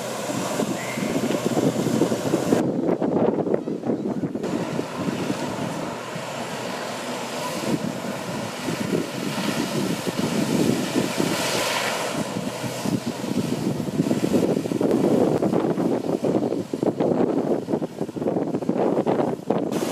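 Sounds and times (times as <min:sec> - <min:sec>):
pump engine droning: 0:00.0 - 0:19.9
water jets rushing and spraying: 0:00.0 - 0:19.9
wind buffeting microphone: 0:00.0 - 0:19.9.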